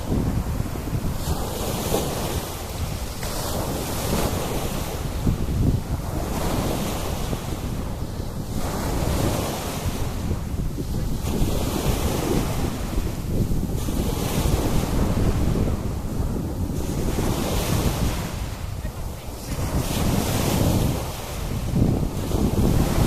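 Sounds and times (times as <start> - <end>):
sea waves washing onto beach: 0.0 - 23.0
wind buffeting microphone: 0.0 - 23.0.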